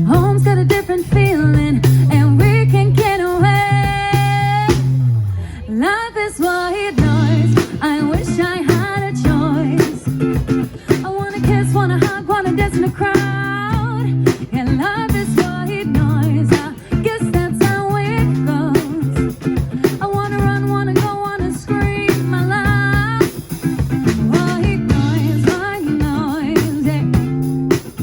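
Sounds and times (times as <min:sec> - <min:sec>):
steady drum beat: 0:00.0 - 0:05.3, 0:06.9 - 0:28.0
person singing lead vocal: 0:00.0 - 0:23.4, 0:24.2 - 0:27.3
bass: 0:00.0 - 0:28.0
guitar: 0:00.0 - 0:28.0.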